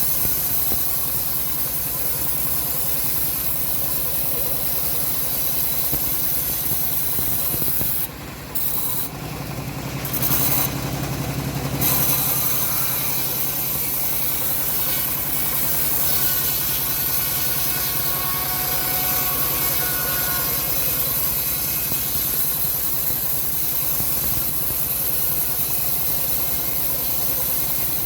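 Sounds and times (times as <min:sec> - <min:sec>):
saw rasping through log: 0:00.0 - 0:09.1, 0:10.0 - 0:28.0
bandsaw running: 0:00.0 - 0:28.0.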